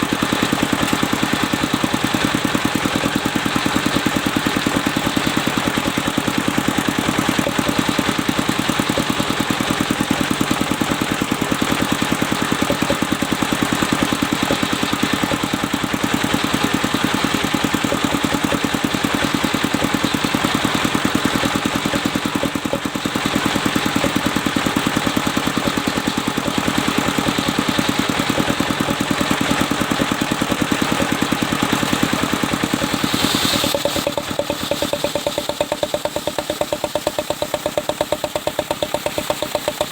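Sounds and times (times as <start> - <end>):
sawmill engine chugging: 0.0 - 39.9.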